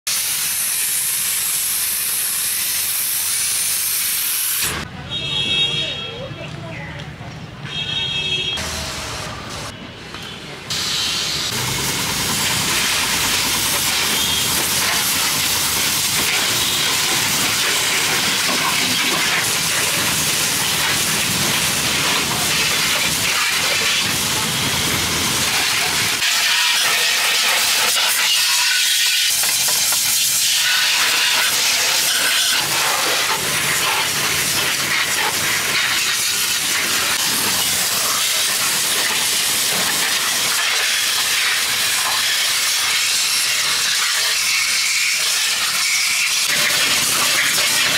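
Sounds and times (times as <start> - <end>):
pressure washer spraying water: 0.1 - 4.9, 8.5 - 9.7, 10.7 - 47.9.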